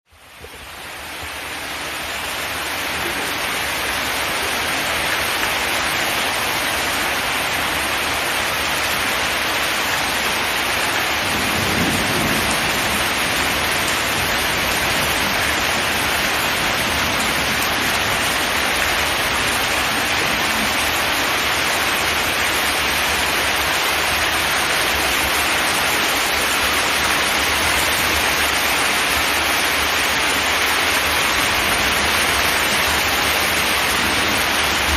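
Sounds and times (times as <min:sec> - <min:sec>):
heavy rain on a metal roof: 0:00.1 - 0:34.9.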